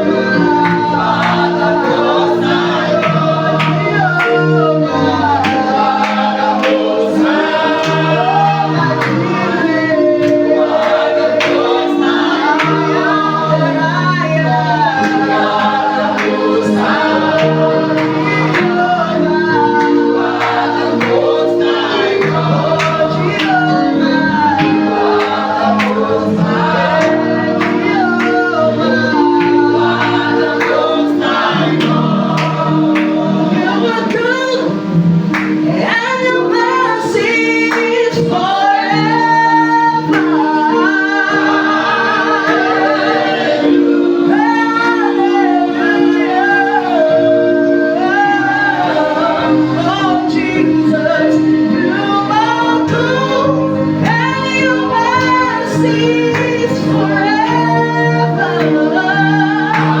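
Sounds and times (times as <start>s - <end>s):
sustained keyboard accompaniment: 0.0s - 60.0s
worship team singing gospel: 0.0s - 60.0s.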